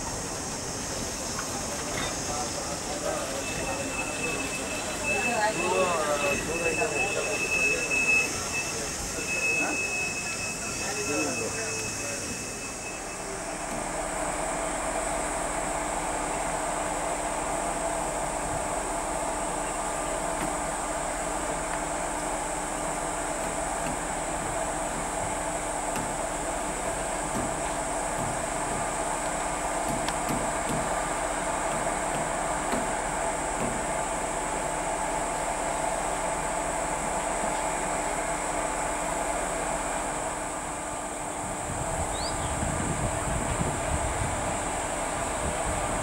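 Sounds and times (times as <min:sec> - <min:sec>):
locomotive cooling blowers whirring: 0:00.0 - 0:46.0.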